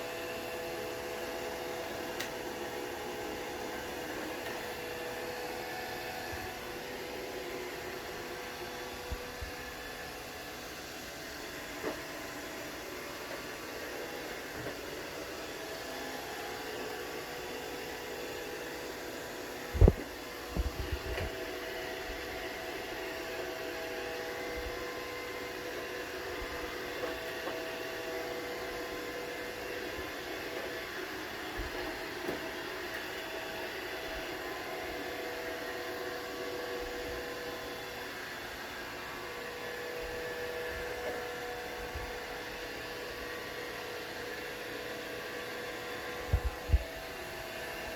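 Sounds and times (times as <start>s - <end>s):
robot vacuum whirring: 0.0s - 47.9s.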